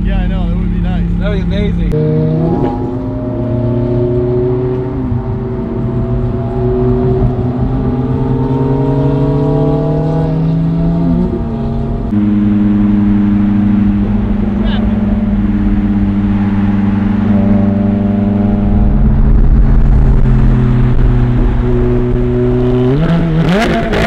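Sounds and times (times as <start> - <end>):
steady engine drone: 0.0 - 24.0
car engine accelerating through gears: 1.1 - 24.0.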